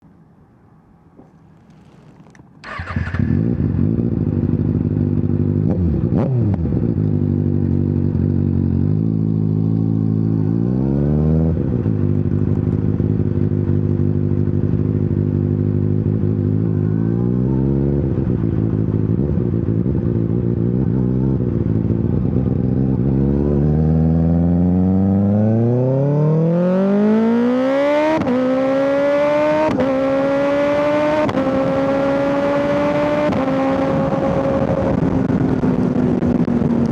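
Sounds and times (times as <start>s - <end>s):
motorcycle engine idling and revving: 1.2s - 36.9s.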